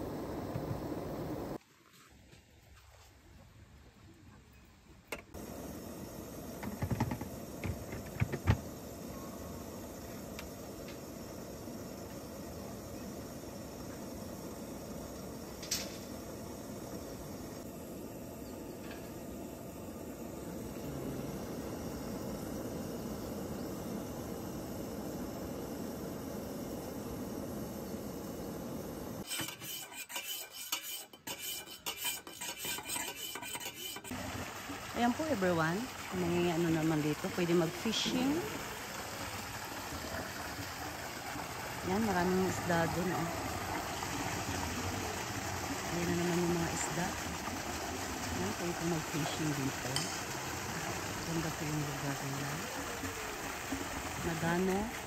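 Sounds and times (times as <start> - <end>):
gas stove burner hissing: 0.0 - 1.6, 5.1 - 55.0.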